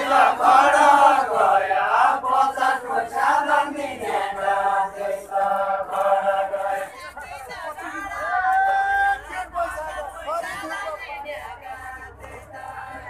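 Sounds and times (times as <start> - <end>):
group singing folk song: 0.0 - 13.0.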